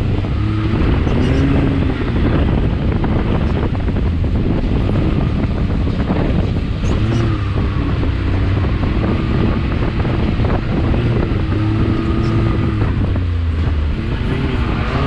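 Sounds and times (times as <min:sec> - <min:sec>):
off-road vehicle engine revving: 0:00.0 - 0:15.0
wind rushing over microphone: 0:00.0 - 0:15.0.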